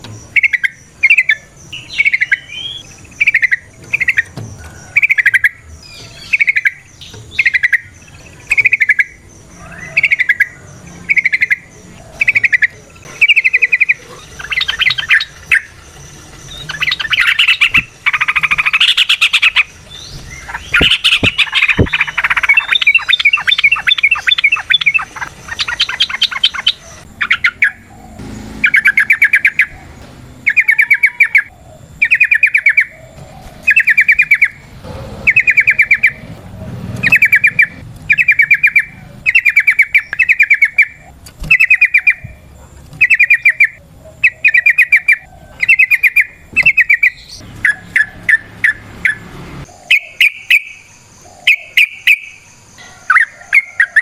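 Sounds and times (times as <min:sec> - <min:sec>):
bird singing bubbling phrases: 0:00.0 - 0:36.3, 0:37.0 - 0:42.4, 0:43.0 - 0:54.0.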